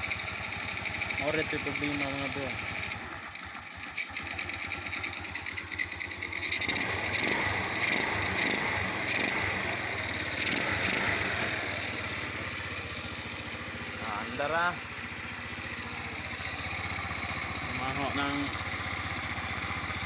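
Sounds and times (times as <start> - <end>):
small gasoline engine revving: 0.0 - 20.0.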